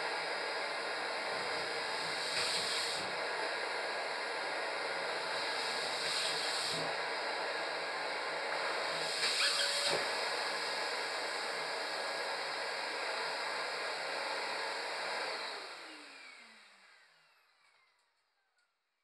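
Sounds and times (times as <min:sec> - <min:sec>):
vacuum cleaner running: 0:00.0 - 0:18.6.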